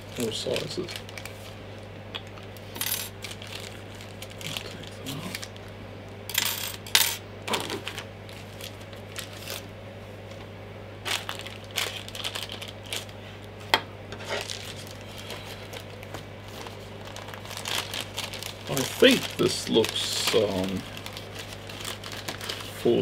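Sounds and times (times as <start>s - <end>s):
plastic bags crinkling: 0.0s - 5.7s, 7.5s - 9.7s, 11.0s - 13.2s, 14.3s - 23.0s.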